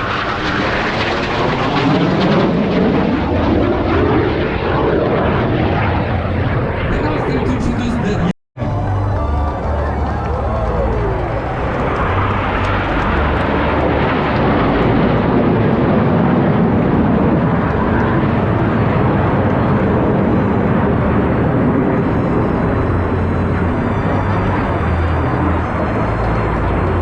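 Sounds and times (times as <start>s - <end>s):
jet flying over: 0.0s - 27.0s.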